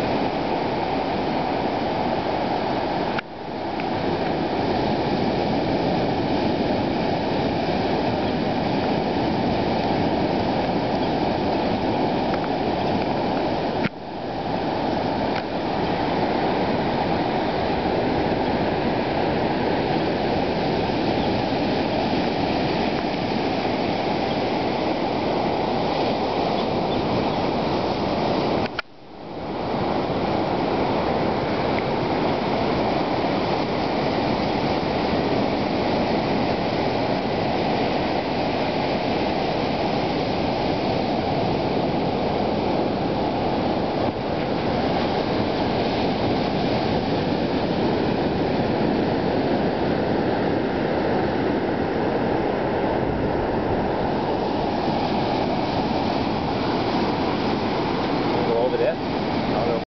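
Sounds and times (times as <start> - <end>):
ocean surf breaking: 0.0 - 59.8.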